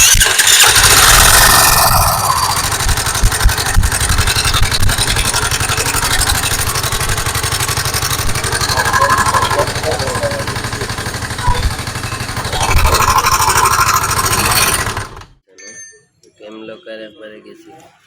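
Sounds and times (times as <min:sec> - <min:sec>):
motorcycle engine idling: 0:00.4 - 0:15.4.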